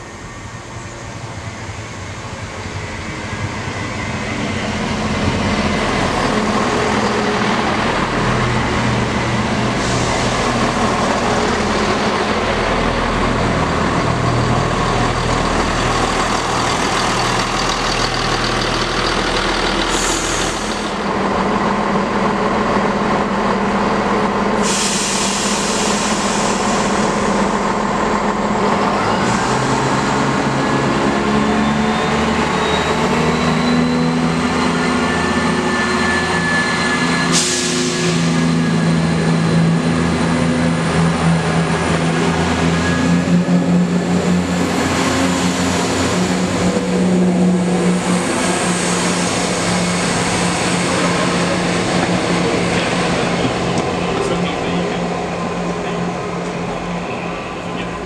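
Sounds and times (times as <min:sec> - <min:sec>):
diesel train running past: 0:00.0 - 0:58.0.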